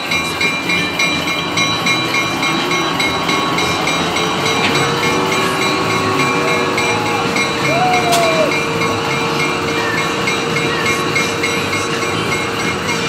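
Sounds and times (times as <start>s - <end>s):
locomotive bell ringing: 0.0s - 13.0s
locomotive engine rumble: 0.0s - 13.0s.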